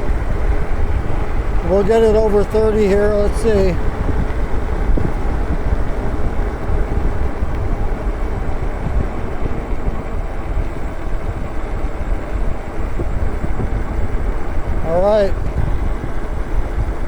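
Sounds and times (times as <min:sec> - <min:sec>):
bicycle tyre noise on road: 0:00.0 - 0:17.0
wind buffeting microphone: 0:00.0 - 0:17.0.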